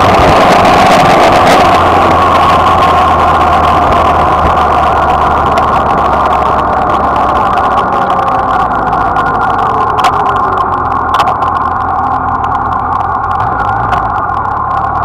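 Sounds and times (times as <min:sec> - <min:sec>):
motorcycle engine running: 0:00.0 - 0:15.0
wind rush over microphone: 0:00.0 - 0:15.0.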